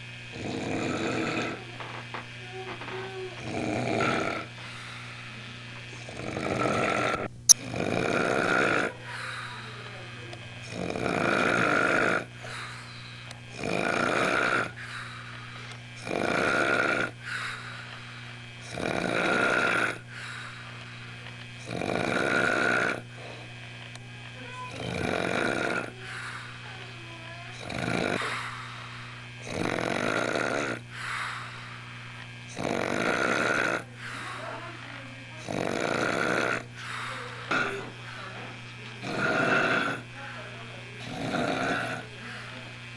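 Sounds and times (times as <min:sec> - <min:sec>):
person snoring: 0:00.0 - 0:10.0, 0:10.6 - 0:23.5, 0:24.6 - 0:26.8, 0:27.5 - 0:31.9, 0:32.5 - 0:37.9, 0:39.0 - 0:40.2, 0:41.0 - 0:42.7
steady low hum: 0:00.0 - 0:42.9.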